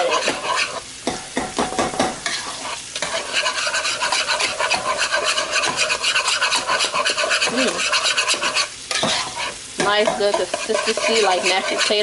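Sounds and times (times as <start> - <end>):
whisk beating puree in a pot: 0.0 - 12.0.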